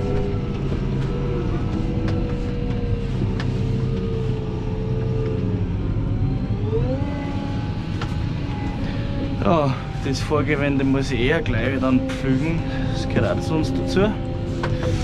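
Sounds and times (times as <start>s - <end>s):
rising whine: 0.0s - 15.0s
tractor diesel engine running: 0.0s - 15.0s.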